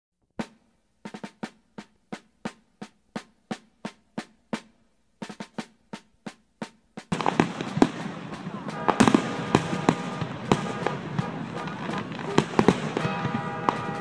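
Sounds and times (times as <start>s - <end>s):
sharp drum strokes: 0.4s - 14.0s.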